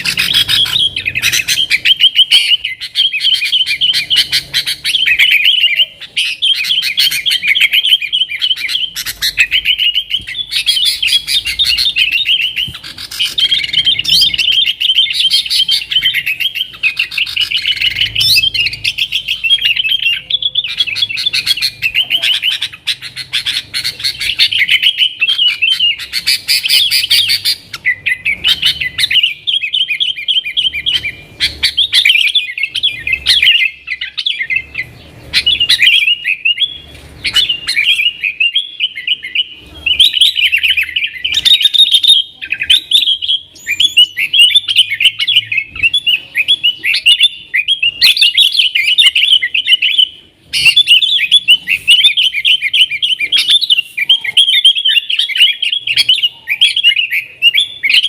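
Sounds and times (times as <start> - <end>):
bulbul singing chattering phrases: 0.0 - 58.0.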